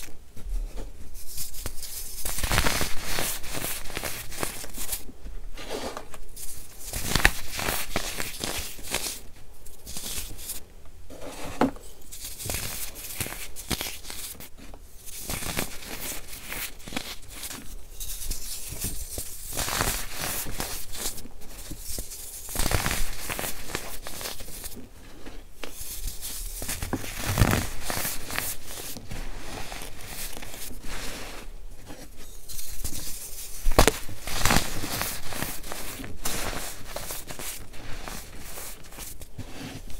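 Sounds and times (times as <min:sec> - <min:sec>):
hands crushing baking soda blocks: 0:01.2 - 0:05.1, 0:06.4 - 0:09.2, 0:12.1 - 0:14.5, 0:15.1 - 0:31.5, 0:32.5 - 0:39.9.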